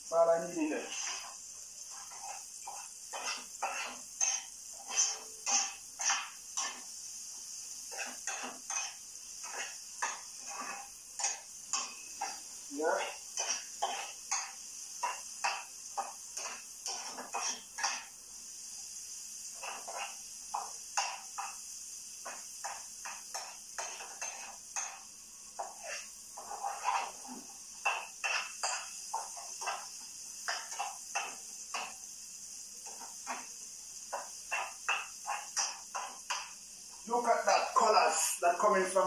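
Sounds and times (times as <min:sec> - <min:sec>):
steady high hiss: 0:00.0 - 0:39.0
metal spoon scraping frying pan: 0:00.7 - 0:06.9, 0:07.8 - 0:18.1, 0:19.5 - 0:21.6, 0:22.2 - 0:32.0, 0:32.8 - 0:36.6.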